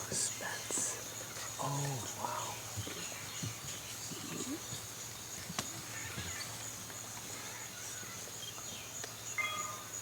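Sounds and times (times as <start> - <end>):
faint chirps: 0.0 - 10.0
insects droning: 0.0 - 10.0.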